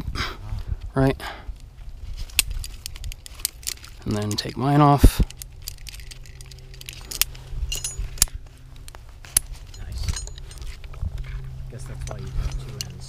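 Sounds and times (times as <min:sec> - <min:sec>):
metal carabiners clinking: 0:01.6 - 0:13.0.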